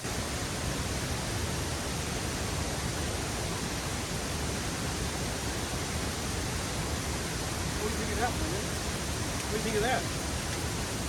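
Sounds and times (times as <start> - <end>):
waterfall crashing: 0.0 - 11.0.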